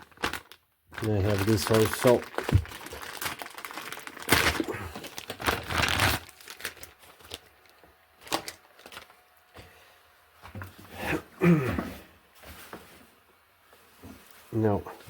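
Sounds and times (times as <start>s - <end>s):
hands rustling and crinkling: 0.0s - 9.3s, 11.9s - 15.0s.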